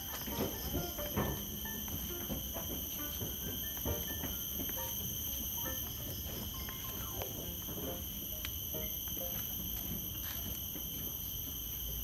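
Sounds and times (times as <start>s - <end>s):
footsteps on metal stairs: 0.0s - 12.0s
high-pitched insect chorus: 0.0s - 12.0s.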